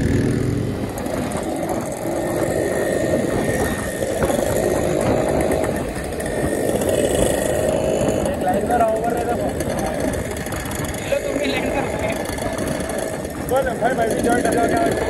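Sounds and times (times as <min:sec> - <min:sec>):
motorcycle engines running: 0:00.0 - 0:15.0
riding noise rushing: 0:00.0 - 0:15.0.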